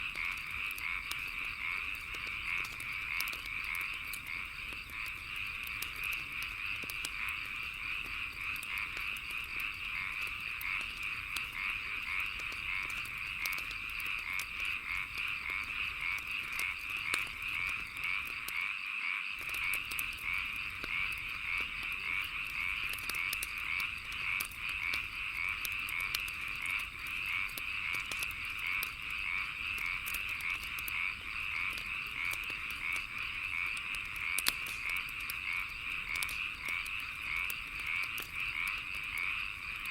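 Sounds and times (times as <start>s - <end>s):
wood fire crackling: 0.0s - 18.7s, 19.4s - 39.9s
frogs croaking: 0.0s - 39.9s.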